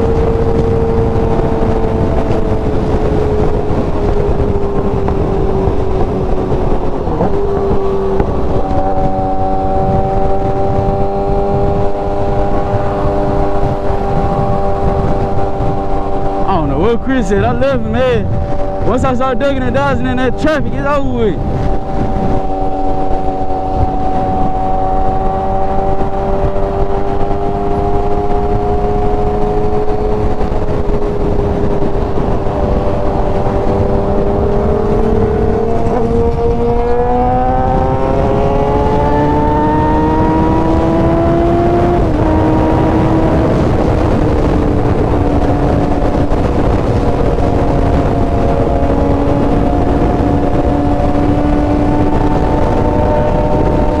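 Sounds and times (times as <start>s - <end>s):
motorcycle engine at speed: 0.0s - 54.0s
wind rush on microphone: 0.0s - 54.0s.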